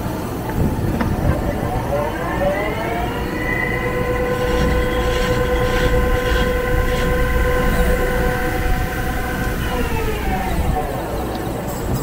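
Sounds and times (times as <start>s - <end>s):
lathe whining: 0.0s - 12.0s
low rumble: 0.5s - 11.5s.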